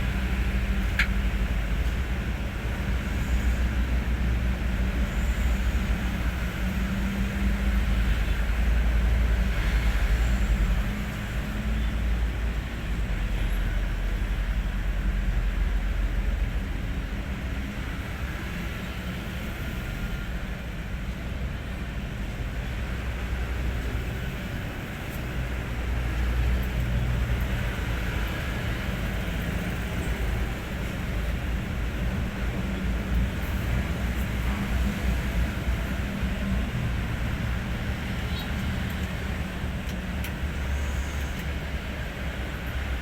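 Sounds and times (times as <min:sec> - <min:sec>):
diesel truck engine rumbling: 0:00.0 - 0:43.0.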